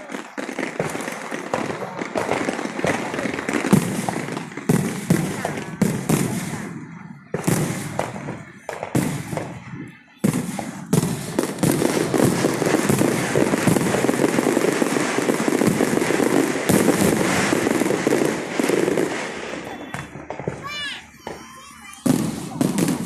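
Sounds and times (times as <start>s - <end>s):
firecrackers crackling: 0.0s - 23.0s
fireworks bangs: 0.0s - 23.0s.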